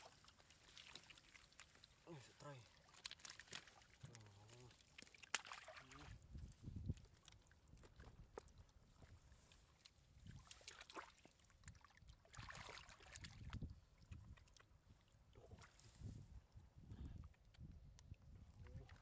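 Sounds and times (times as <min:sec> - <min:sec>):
splashing in shallow water: 0:00.0 - 0:16.0.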